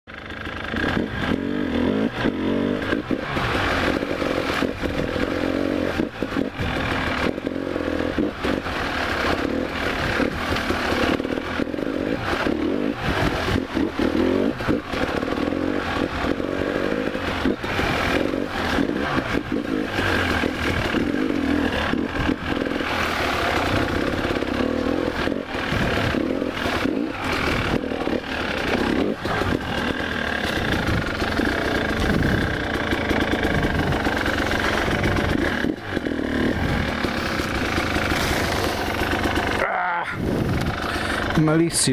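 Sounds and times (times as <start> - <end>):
bike and camera rattling: 0.1 - 41.9
dirt bike engine revving: 0.1 - 41.9.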